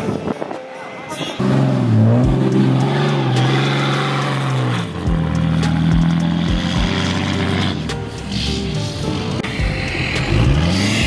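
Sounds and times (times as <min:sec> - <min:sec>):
truck engine revving hard: 0:01.4 - 0:11.0.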